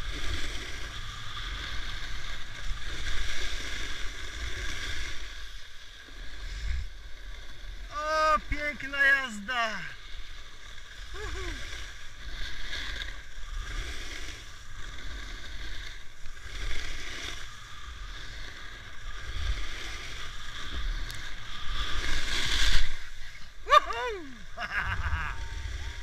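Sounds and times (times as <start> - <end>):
skis scraping through snow: 0.0 - 26.0.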